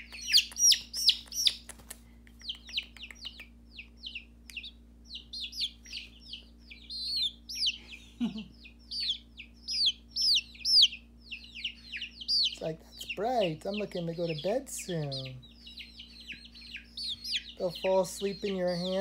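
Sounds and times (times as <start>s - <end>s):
baby chicks peeping: 0.0s - 19.0s.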